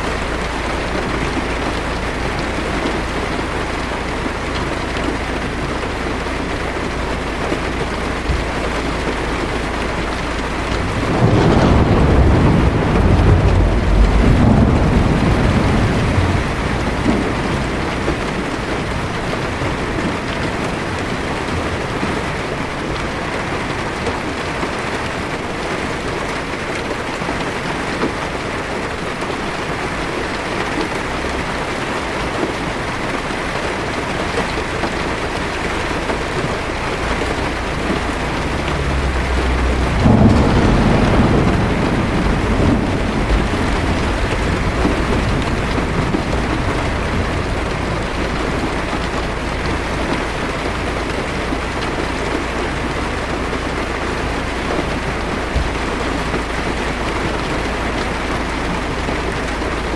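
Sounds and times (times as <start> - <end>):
low rumble of thunder: 0.0 - 24.7, 25.3 - 59.9
heavy rain on car roof: 0.0 - 59.9.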